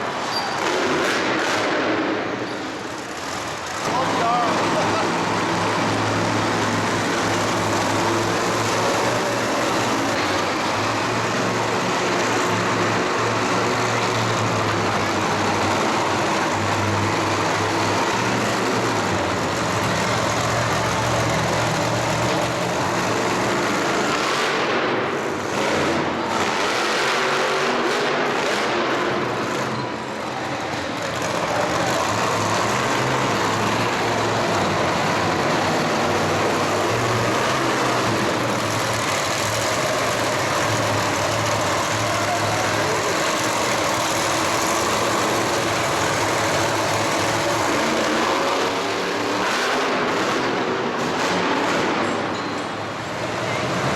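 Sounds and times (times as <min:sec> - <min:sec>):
monster truck engine running: 0:00.0 - 0:53.9.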